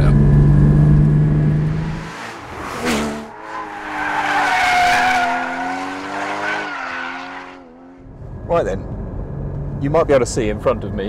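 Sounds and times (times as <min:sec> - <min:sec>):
car engine under load: 0:00.0 - 0:11.0.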